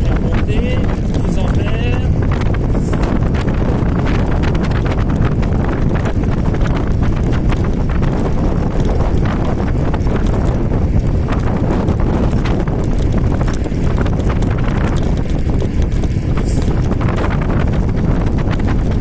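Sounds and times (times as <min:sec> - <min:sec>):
scooter wheels clattering on road: 0:00.0 - 0:19.0
wind buffeting microphone: 0:00.0 - 0:19.0.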